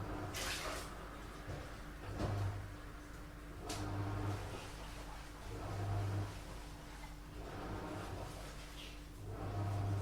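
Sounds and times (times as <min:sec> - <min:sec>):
washing machine hum: 0:00.0 - 0:10.0.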